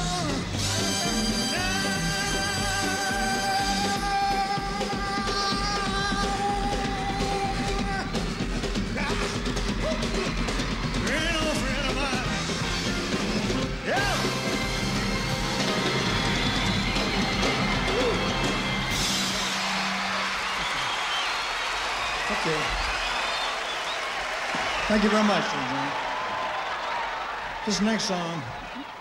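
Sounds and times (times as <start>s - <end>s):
rock and roll band playing: 0.0s - 25.2s.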